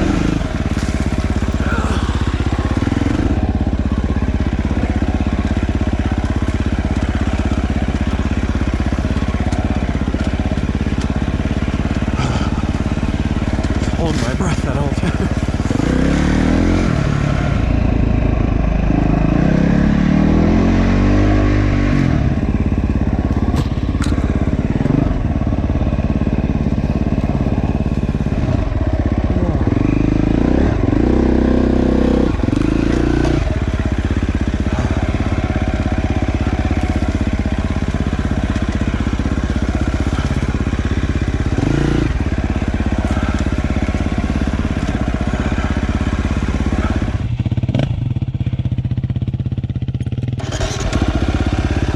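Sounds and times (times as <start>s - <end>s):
dirt bike engine revving: 0.0s - 48.0s, 50.4s - 51.9s.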